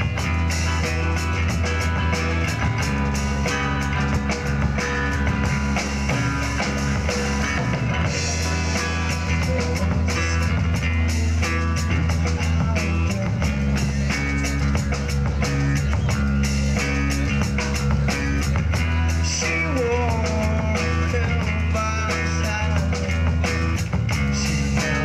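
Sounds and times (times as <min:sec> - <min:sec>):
rapid drum hits: 0:00.0 - 0:25.0
rock band playing: 0:00.0 - 0:25.0.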